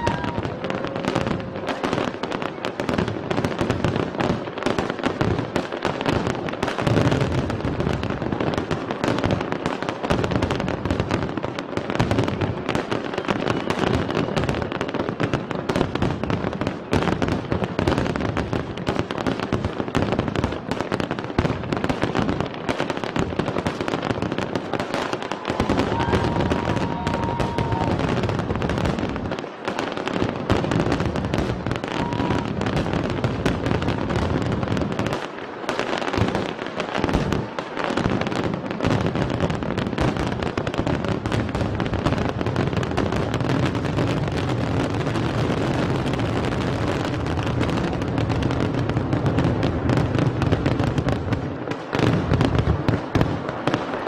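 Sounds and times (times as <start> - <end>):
fireworks booming and crackling: 0.0 - 54.0.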